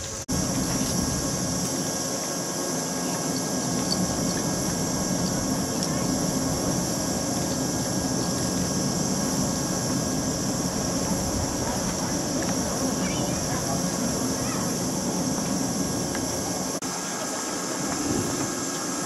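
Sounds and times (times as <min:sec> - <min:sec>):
electric train humming: 0:00.0 - 0:19.0
steady high hiss: 0:00.0 - 0:19.0.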